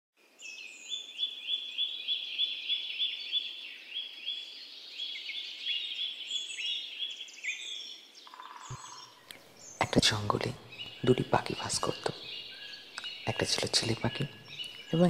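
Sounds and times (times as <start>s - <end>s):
bird chirping: 0.2s - 15.0s.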